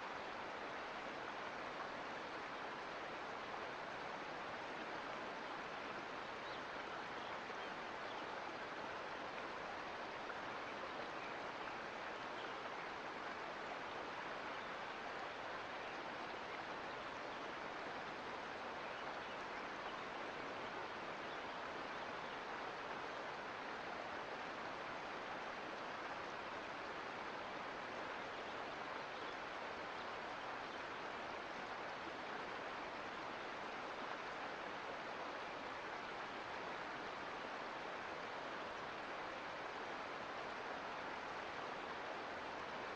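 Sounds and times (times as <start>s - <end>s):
creek water flowing: 0.0s - 42.9s.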